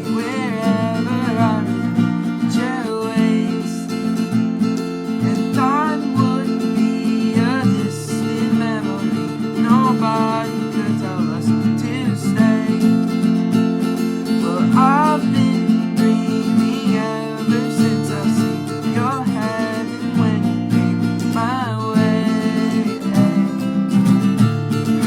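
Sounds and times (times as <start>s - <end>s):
acoustic guitar strumming: 0.0s - 25.0s
sliding guitar melody: 0.0s - 25.0s.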